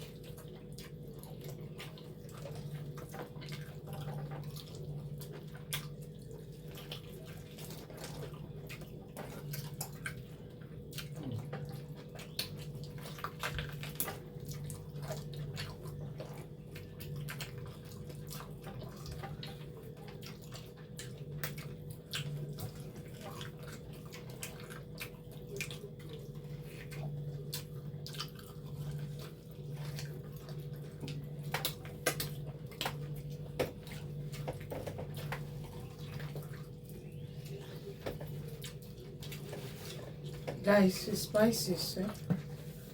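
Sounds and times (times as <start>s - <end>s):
wet chewing and smacking: 0.0s - 42.9s.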